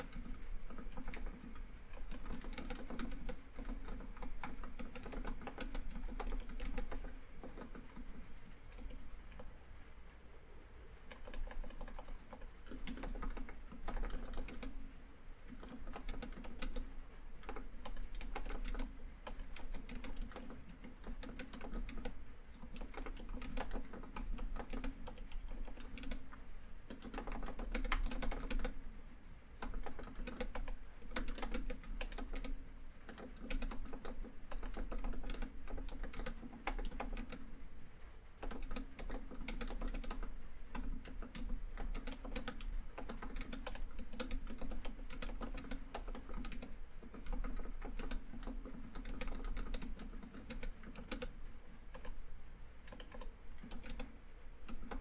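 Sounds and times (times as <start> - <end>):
typing on laptop keyboard: 0.0 - 9.6, 11.0 - 28.8, 29.5 - 37.6, 38.4 - 52.2, 52.8 - 55.0.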